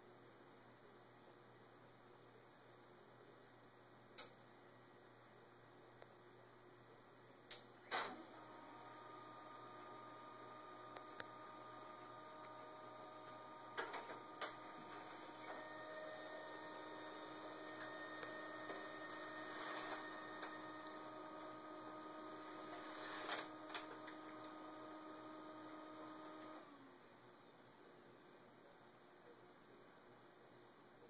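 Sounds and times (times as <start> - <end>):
electrical motor hum: 0.8 - 28.5.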